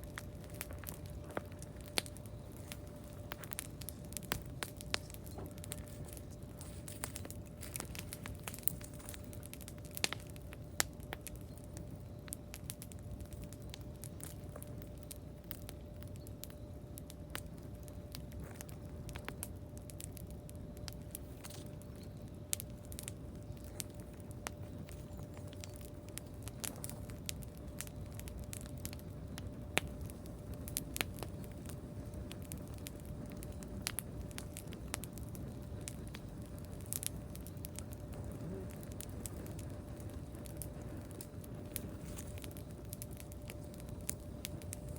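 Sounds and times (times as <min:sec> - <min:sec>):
campfire crackling: 0:00.0 - 0:44.9
faint steady tone: 0:00.0 - 0:44.9.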